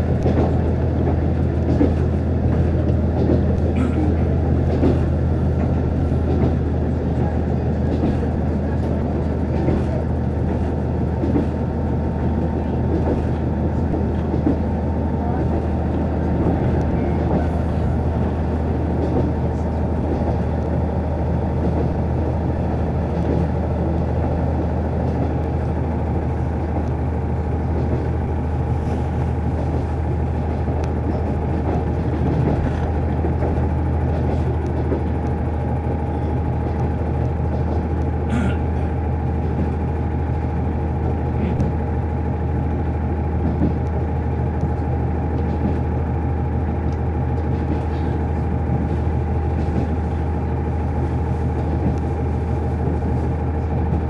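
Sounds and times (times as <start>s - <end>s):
railcar engine drone: 0.0s - 54.0s.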